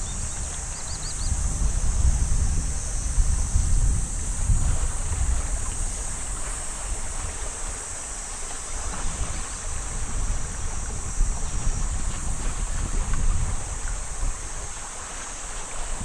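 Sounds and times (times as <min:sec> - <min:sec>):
steady high hiss: 0:00.0 - 0:16.0
wind buffeting microphone: 0:00.0 - 0:16.0.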